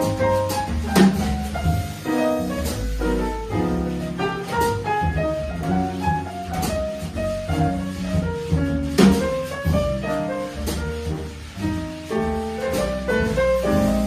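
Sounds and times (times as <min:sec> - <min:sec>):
double bass: 0:00.0 - 0:14.0
drums: 0:00.0 - 0:14.0
piano: 0:00.0 - 0:14.0.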